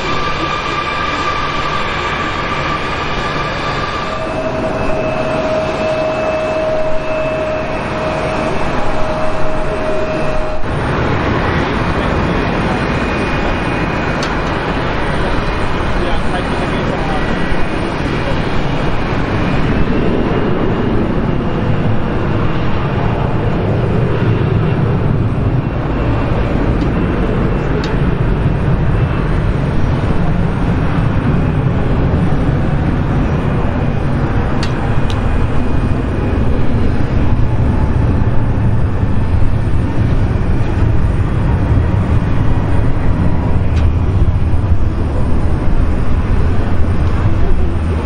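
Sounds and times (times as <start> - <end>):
jet engines rumbling at takeoff: 0.0 - 48.0.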